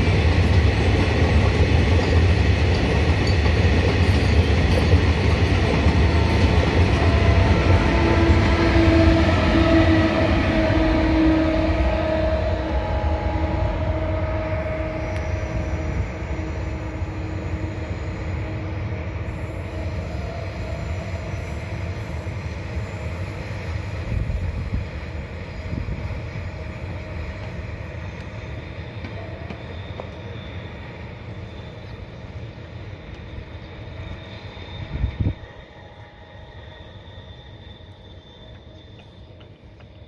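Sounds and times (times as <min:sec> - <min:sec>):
freight train rolling on rails: 0:00.0 - 0:40.0.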